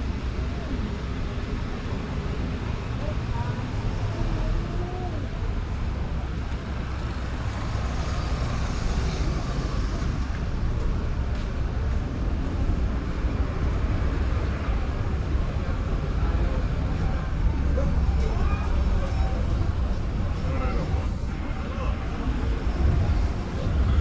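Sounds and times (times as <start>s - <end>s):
faint voices of passers-by: 0.0s - 24.0s
road traffic rumble: 0.0s - 24.0s.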